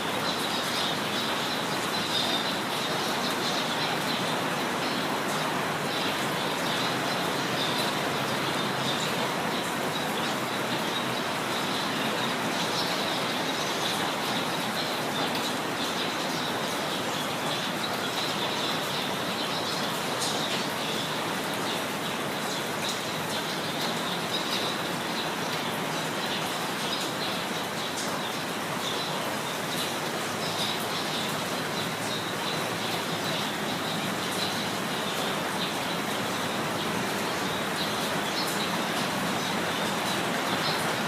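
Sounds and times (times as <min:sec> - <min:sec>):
birds chirping: 0:00.0 - 0:41.0
steady rain: 0:00.0 - 0:41.0.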